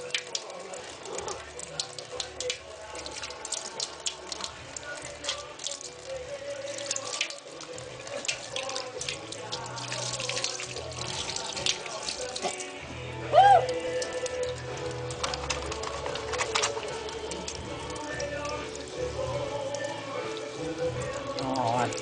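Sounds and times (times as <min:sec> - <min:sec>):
tap water splashing: 0:00.0 - 0:12.8, 0:13.6 - 0:22.0
water dripping: 0:00.0 - 0:22.0.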